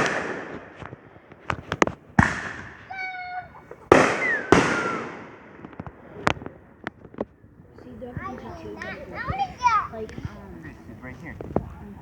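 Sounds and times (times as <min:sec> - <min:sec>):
fireworks bangs with echoing rumble: 0:00.0 - 0:10.2
light fireworks pops: 0:00.0 - 0:10.5, 0:11.3 - 0:11.8.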